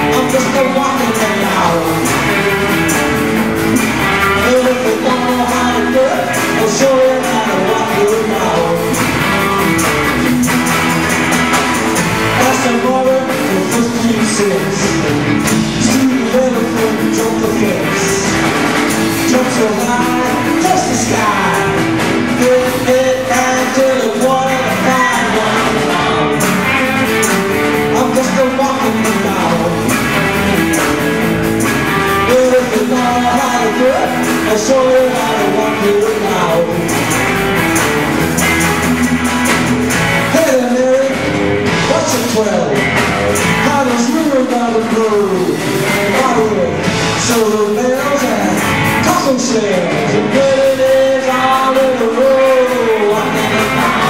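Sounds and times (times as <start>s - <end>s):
drum kit: 0.0s - 54.0s
electric guitars: 0.0s - 54.0s
lead singer singing: 0.0s - 54.0s
live rock band: 0.0s - 54.0s.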